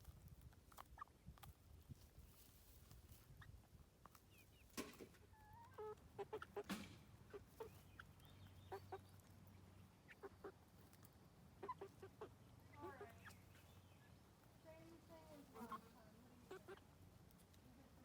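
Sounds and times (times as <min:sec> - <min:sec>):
chickens clucking softly: 0:00.0 - 0:18.0
chicks chirping: 0:00.1 - 0:18.0.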